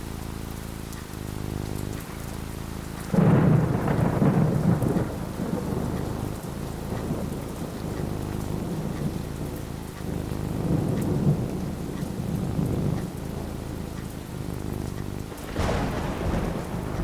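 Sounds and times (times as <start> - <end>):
steady rain falling: 0.0 - 17.0
loud roll of thunder: 3.0 - 17.0.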